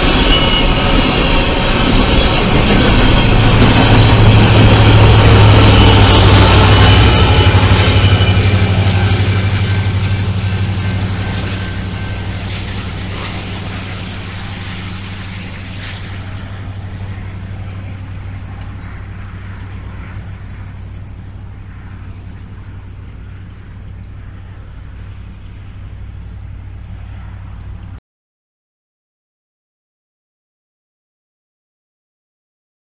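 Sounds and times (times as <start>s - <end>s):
diesel locomotive rumble: 0.0s - 28.0s.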